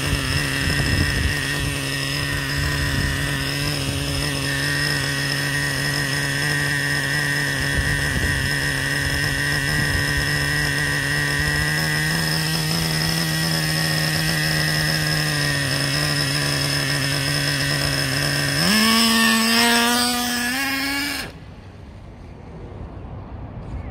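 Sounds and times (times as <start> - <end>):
model nitro engine revving: 0.0 - 21.5.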